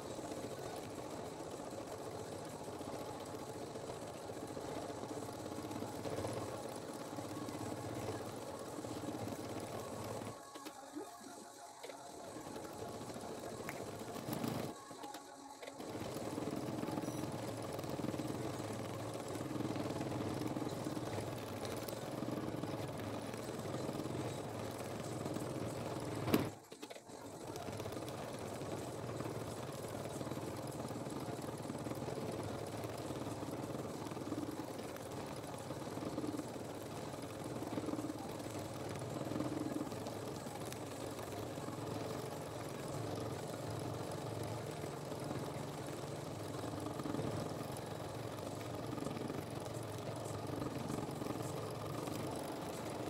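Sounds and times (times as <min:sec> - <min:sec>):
sewing machine running: 0:00.0 - 0:53.0.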